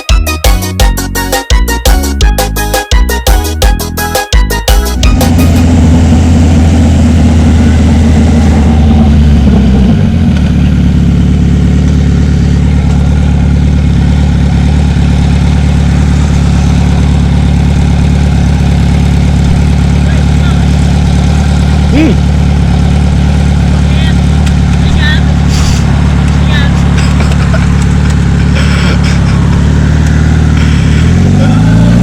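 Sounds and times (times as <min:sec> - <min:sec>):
motorcycle engine at low revs: 0:05.1 - 0:32.0.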